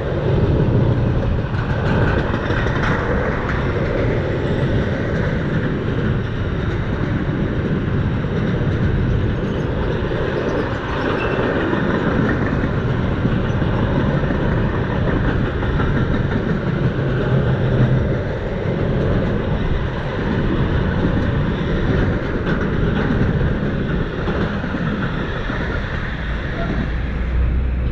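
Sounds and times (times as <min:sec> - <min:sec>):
train wagons rolling: 0:00.0 - 0:27.9.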